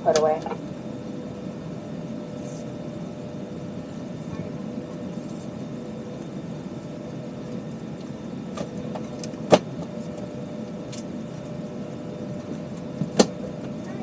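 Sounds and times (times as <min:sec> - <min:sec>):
airliner cabin hum: 0:00.0 - 0:14.0.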